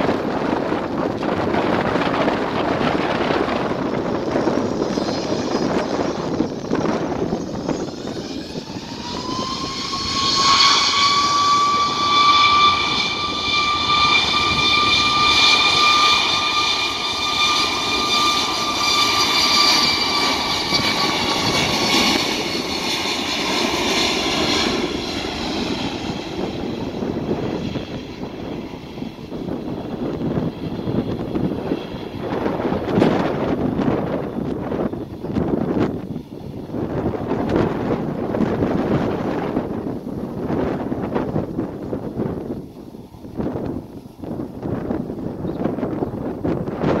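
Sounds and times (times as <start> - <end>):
jet engines whining and roaring: 0.0 - 47.0.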